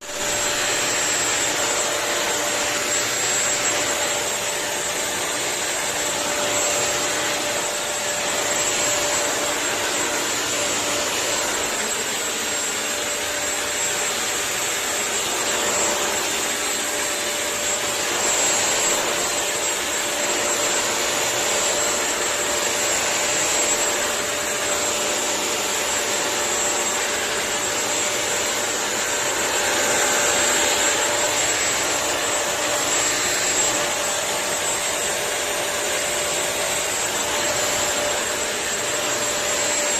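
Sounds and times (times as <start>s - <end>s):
floor cleaner running: 0.0s - 39.9s.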